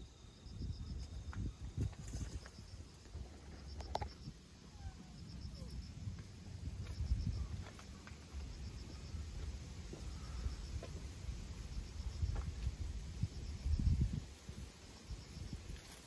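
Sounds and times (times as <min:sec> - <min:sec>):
insects chirping in pulsed trills: 0:00.0 - 0:16.0
steady low rumble: 0:02.7 - 0:15.8.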